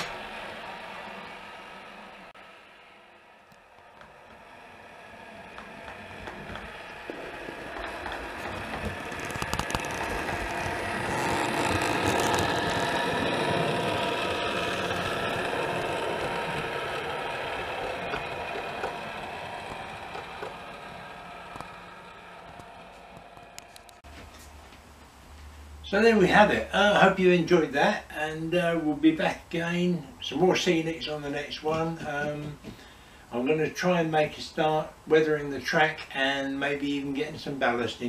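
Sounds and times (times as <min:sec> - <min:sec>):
model train running on track: 0:00.0 - 0:24.0, 0:25.9 - 0:38.0.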